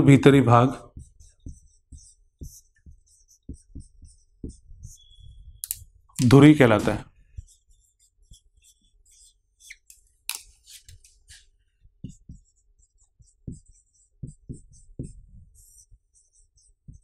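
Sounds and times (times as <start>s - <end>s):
marker squeaking on whiteboard: 0.9s - 17.0s.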